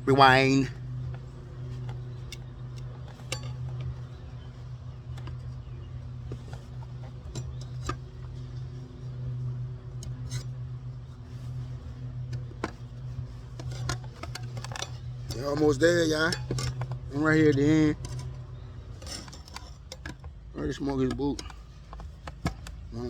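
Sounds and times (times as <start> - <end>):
steady low hum: 0.0 - 23.0
tire irons clinking on wheel rim: 0.0 - 23.0.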